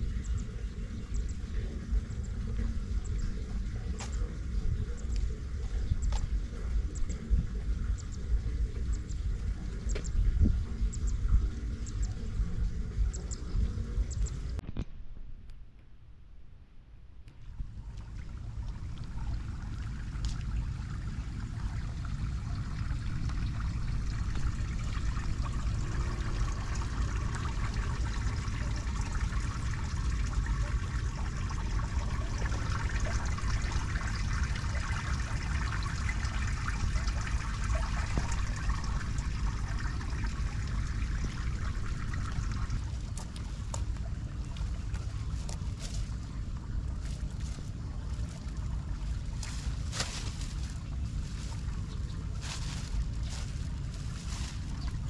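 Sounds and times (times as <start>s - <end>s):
water trickling into storm drain: 0.0s - 14.6s, 17.4s - 55.0s
steady low rumble: 0.0s - 55.0s.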